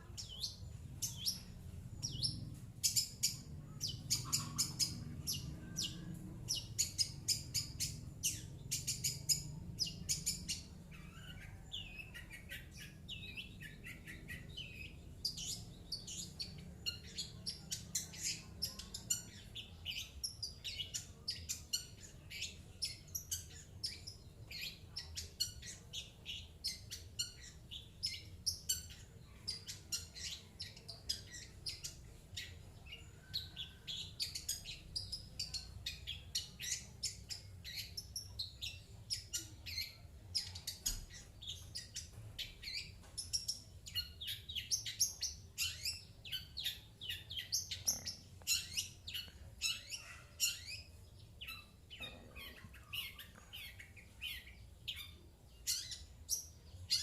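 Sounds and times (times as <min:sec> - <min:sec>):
bird singing high chirps: 0:00.0 - 0:57.0.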